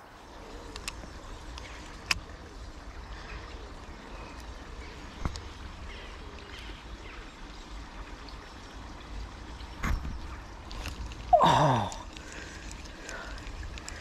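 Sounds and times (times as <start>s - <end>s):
small river flowing: 0.0s - 14.0s.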